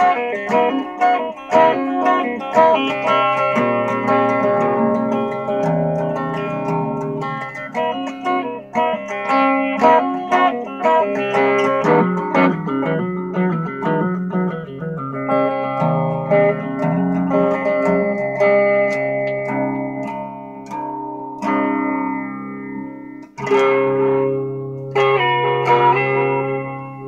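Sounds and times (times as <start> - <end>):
electric guitar picked notes: 0.0 - 27.0.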